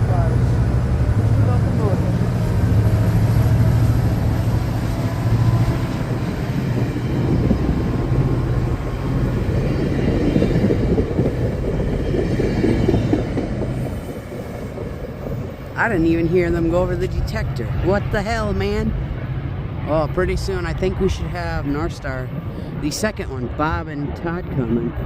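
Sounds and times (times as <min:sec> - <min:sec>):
diesel locomotive engine hum: 0:00.0 - 0:25.0
rolling train: 0:00.0 - 0:25.0.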